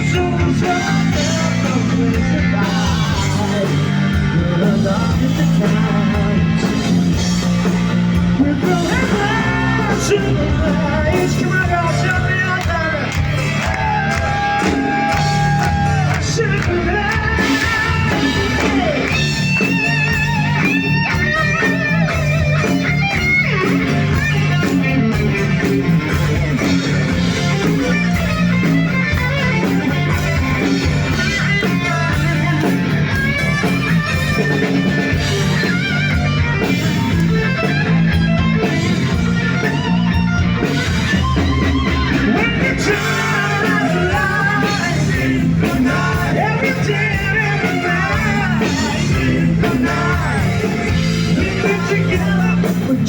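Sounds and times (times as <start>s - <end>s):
lead electric guitar: 0.0s - 53.0s
rock band playing live: 0.0s - 53.0s.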